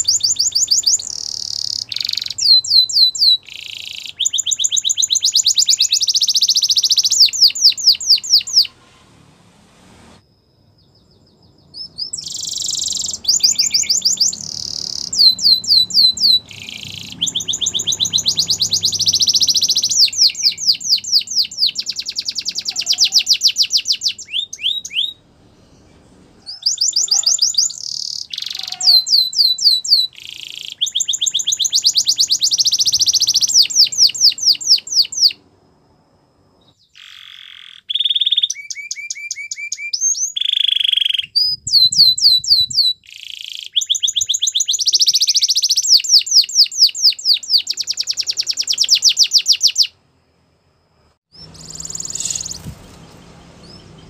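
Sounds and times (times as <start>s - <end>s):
canary singing trills: 0.0s - 8.9s, 10.6s - 50.0s, 51.3s - 54.0s.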